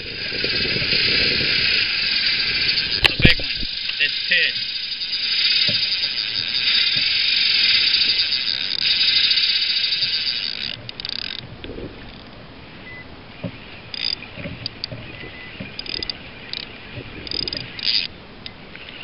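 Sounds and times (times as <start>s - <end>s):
fishing reel drag buzzing: 0.0s - 11.4s, 13.5s - 19.0s.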